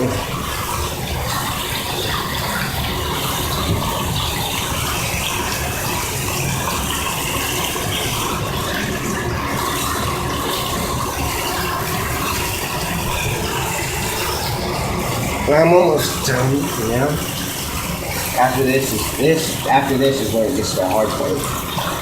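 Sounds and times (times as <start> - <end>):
water running from tap: 0.0 - 22.0.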